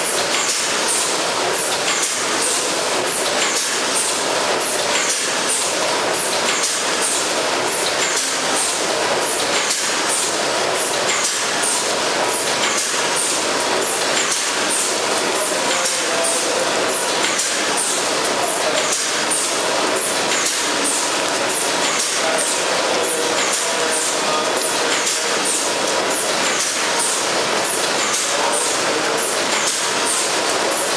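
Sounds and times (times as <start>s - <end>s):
packing machinery running: 0.0s - 30.9s.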